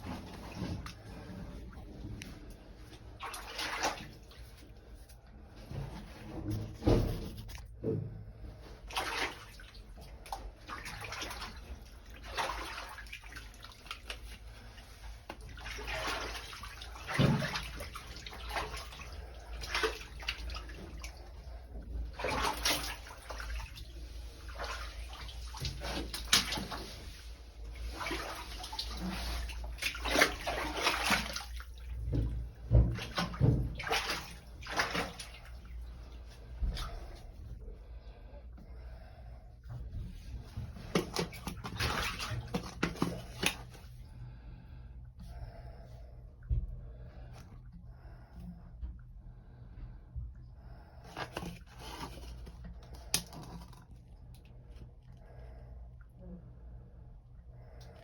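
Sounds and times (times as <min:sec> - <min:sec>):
water splashing and sloshing: 0:00.0 - 0:58.0.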